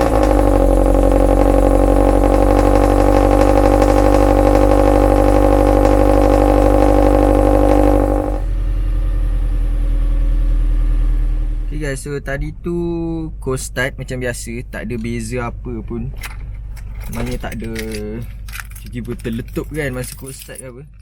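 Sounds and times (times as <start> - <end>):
car engine idling: 0.0 - 20.5.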